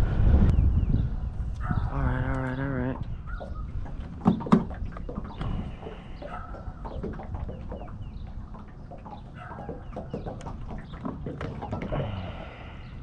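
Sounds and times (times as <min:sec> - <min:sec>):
bird calls: 0:00.6 - 0:13.0.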